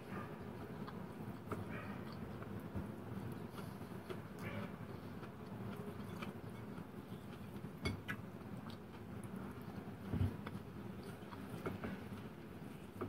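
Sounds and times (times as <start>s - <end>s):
person chewing: 0.3s - 13.0s.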